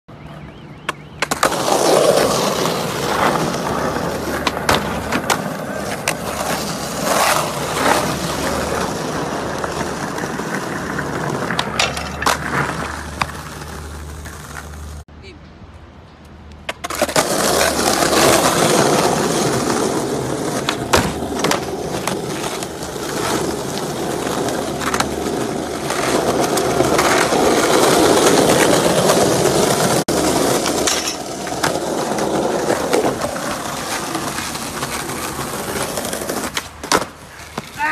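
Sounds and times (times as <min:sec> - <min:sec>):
skateboard wheels rolling on stone: 0:00.3 - 0:15.0, 0:16.4 - 0:37.9
skateboard clacks: 0:00.8 - 0:15.0, 0:16.6 - 0:37.9.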